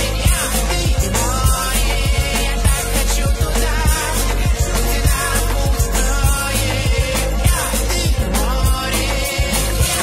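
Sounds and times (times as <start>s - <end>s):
drum kit beat: 0.0s - 10.0s
pop song: 0.0s - 10.0s.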